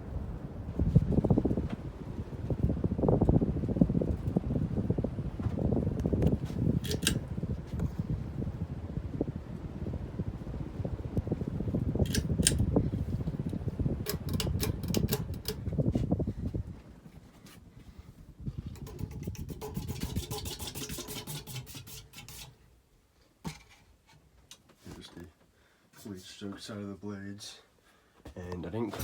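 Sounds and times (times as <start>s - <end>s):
ceiling fan air rumble: 0.0s - 29.0s.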